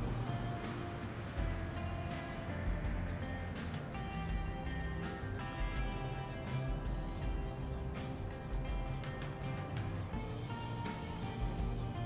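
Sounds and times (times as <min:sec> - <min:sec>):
music with held notes and beat: 0:00.0 - 0:12.0.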